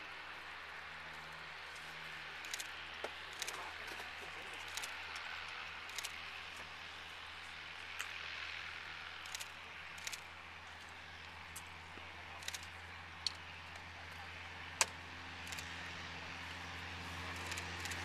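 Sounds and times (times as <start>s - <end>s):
distant plane engine drone: 0.0s - 18.0s.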